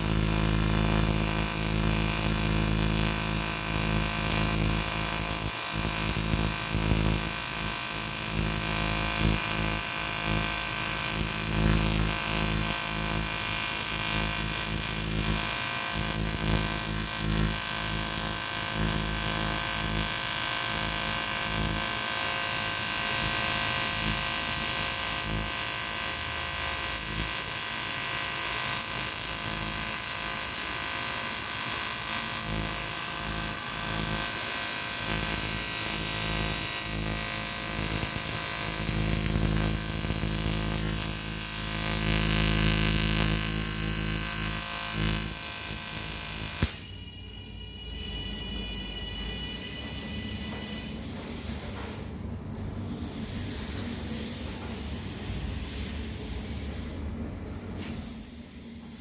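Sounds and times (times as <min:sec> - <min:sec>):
welding arc buzzing: 0:00.0 - 0:59.0.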